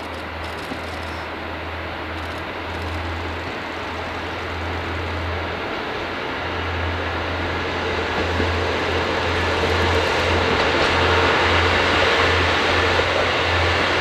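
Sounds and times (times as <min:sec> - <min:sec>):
diesel train rumbling: 0:00.0 - 0:14.0.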